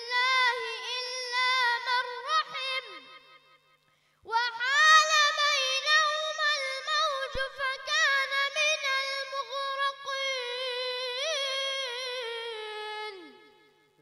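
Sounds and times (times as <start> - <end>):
boy chanting recitation: 0.0 - 3.6, 4.3 - 13.8.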